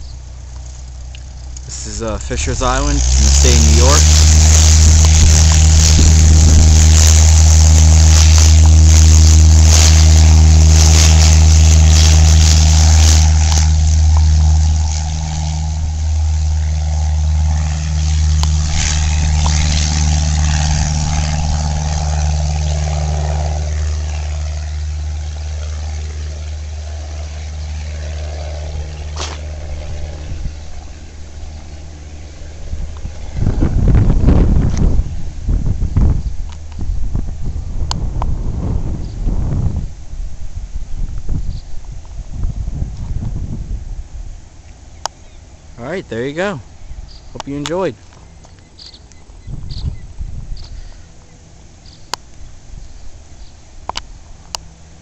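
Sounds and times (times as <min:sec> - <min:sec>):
propeller plane engine drone: 0:00.0 - 0:55.0
wind noise on microphone: 0:01.6 - 0:26.3, 0:26.9 - 0:44.5, 0:49.2 - 0:51.2.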